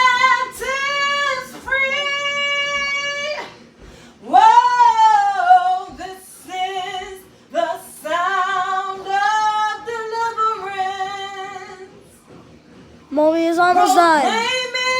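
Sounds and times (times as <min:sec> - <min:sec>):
woman singing unaccompanied: 0:00.0 - 0:03.5, 0:04.2 - 0:11.9, 0:13.2 - 0:14.9.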